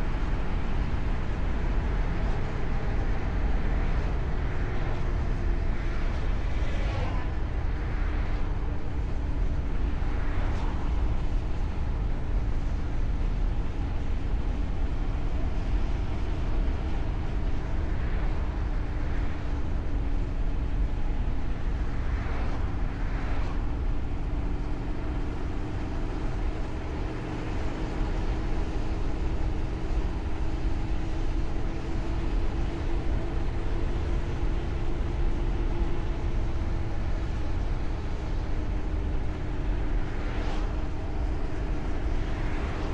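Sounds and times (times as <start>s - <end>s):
vehicle engine rumble: 0.0s - 42.9s.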